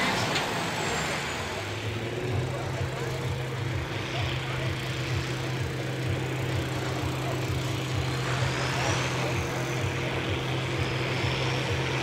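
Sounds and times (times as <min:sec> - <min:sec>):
tractor diesel engine labouring: 0:00.0 - 0:12.0.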